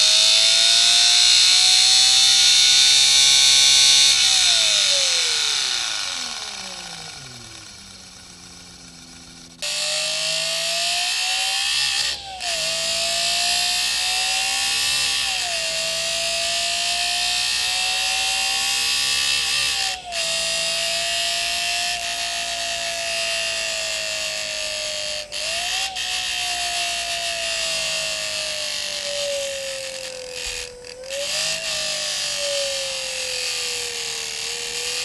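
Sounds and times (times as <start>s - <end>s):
paper strip buzzing on spinning disc: 0.0s - 35.0s.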